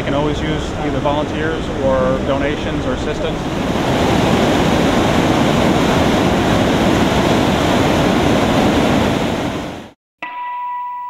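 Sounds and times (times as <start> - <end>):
river rushing through rapids: 0.3 - 10.0.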